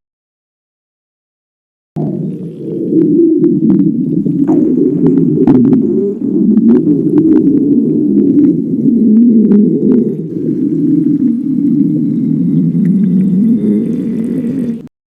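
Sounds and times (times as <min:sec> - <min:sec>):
stomach growling low rumble: 0:02.0 - 0:14.9.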